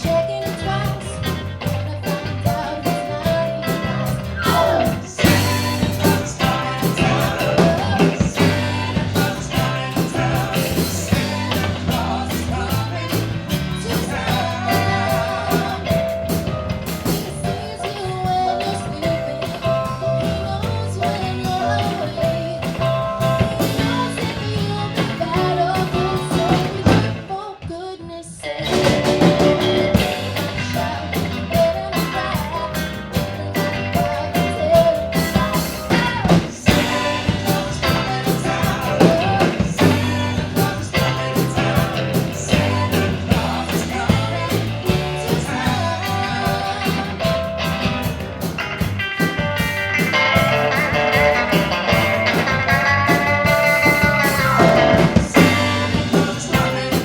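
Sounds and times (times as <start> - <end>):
live rock and roll band: 0.0 - 57.0.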